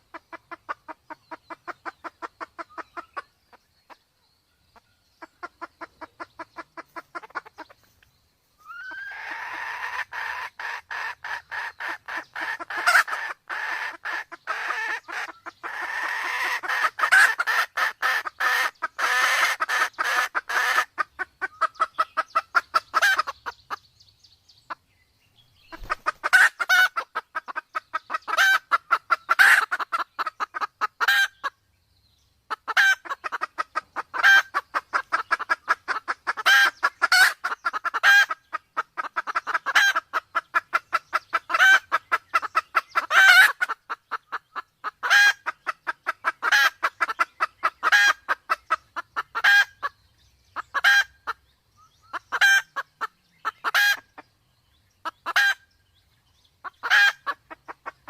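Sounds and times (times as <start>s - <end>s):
hen clucking: 0.0s - 4.0s, 5.2s - 8.0s, 8.6s - 23.9s, 25.7s - 31.6s, 32.5s - 50.0s, 50.6s - 51.4s, 52.1s - 54.4s, 55.0s - 55.7s, 56.6s - 58.0s.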